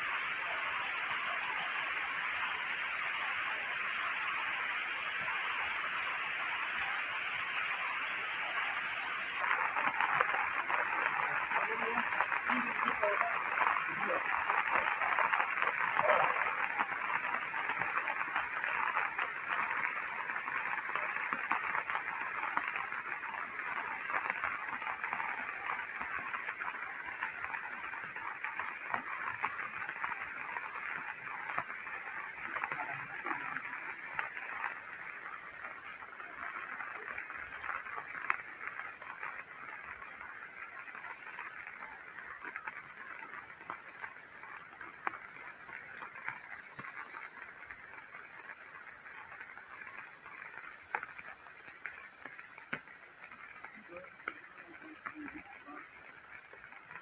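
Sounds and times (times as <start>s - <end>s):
heavy rain hissing and pattering: 0.0s - 57.0s.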